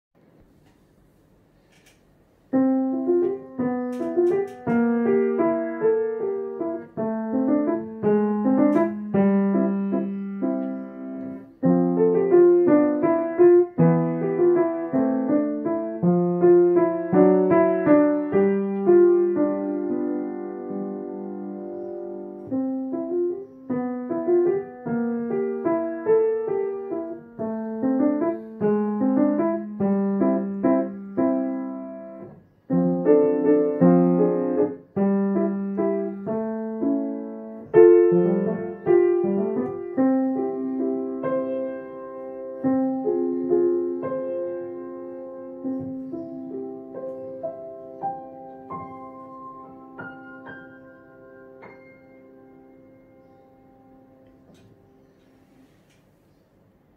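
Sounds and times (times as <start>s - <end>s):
piano playing a waltz: 2.4s - 55.6s.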